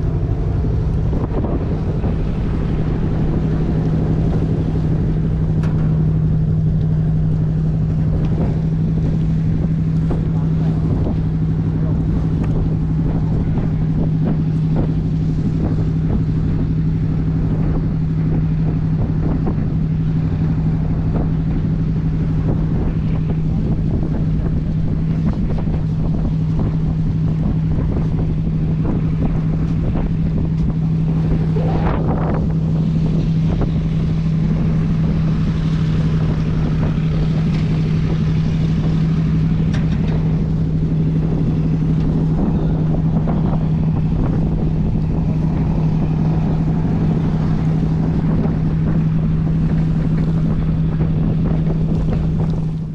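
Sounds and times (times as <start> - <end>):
boat engine droning: 0.0 - 52.9
water rushing past: 0.0 - 52.9
wind: 0.0 - 52.9.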